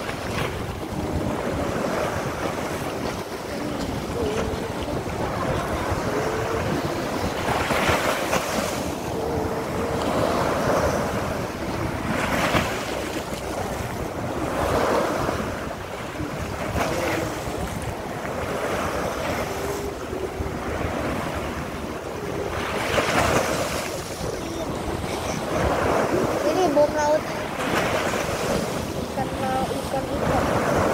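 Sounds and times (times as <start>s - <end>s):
waves washing up a beach: 0.0s - 30.9s
wind rumbling on microphone: 0.0s - 30.9s.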